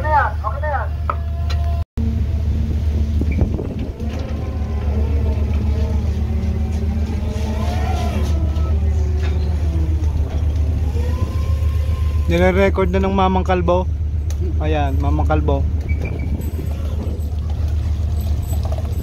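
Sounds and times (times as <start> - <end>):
ship engines droning: 0.0 - 19.0
winch whining: 2.4 - 19.0.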